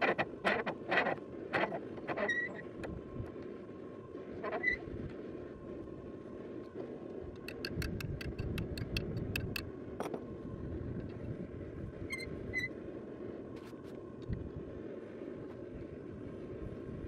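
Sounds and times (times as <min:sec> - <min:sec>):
steady low rumble: 0:02.7 - 0:17.0.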